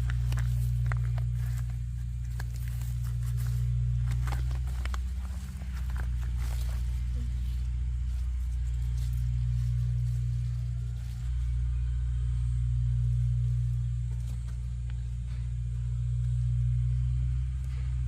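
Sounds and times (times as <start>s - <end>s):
motor running with low drone: 0.0s - 18.0s.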